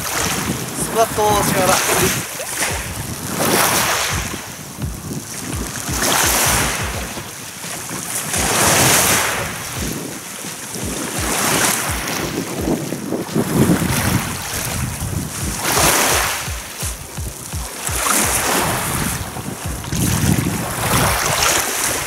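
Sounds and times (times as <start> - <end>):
waves washing onto gravel shore: 0.0 - 22.0
wind buffeting microphone: 0.0 - 22.0.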